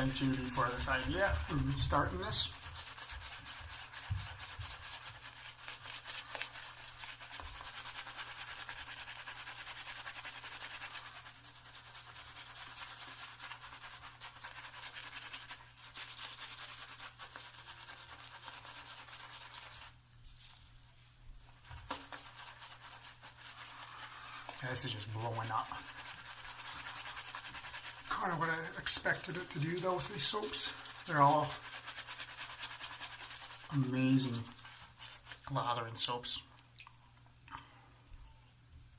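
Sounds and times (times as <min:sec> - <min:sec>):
shaving brush scratching lather: 0:00.0 - 0:20.7, 0:21.4 - 0:36.3.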